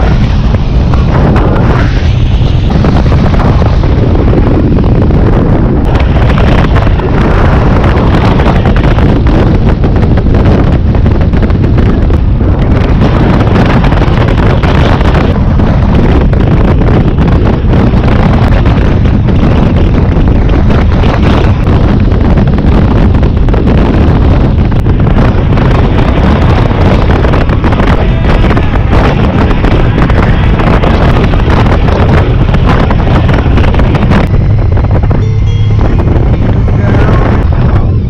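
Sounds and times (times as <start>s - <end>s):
motorcycle engine: 0.0s - 38.0s
wind buffeting microphone: 0.0s - 38.0s.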